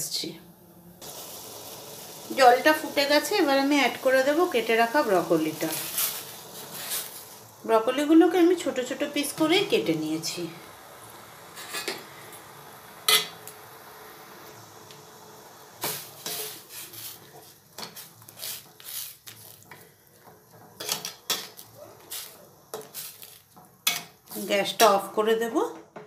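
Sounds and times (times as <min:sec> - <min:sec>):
water boiling: 0:00.0 - 0:25.7.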